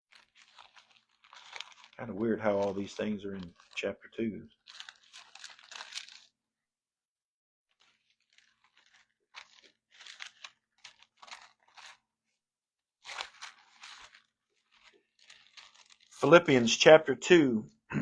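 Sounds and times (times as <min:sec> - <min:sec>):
book pages rustling: 0:00.0 - 0:06.4, 0:07.7 - 0:12.4, 0:13.0 - 0:16.6.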